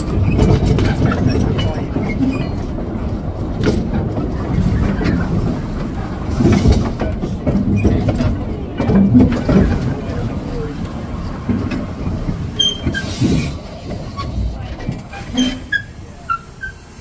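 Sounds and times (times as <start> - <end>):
sharp clicks and clacks: 0.0 - 15.8
locomotive wheels rumbling and rattling: 0.0 - 17.0.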